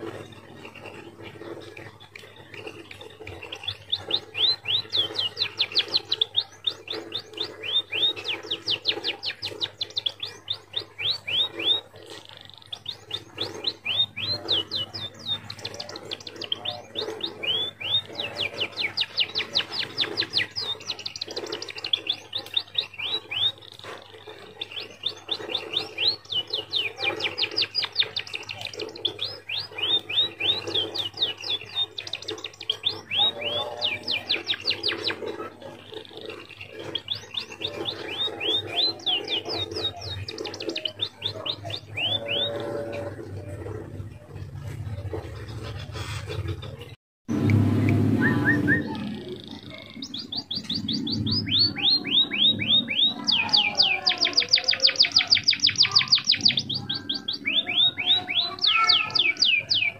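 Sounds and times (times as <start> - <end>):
finch singing: 0.0 - 59.9.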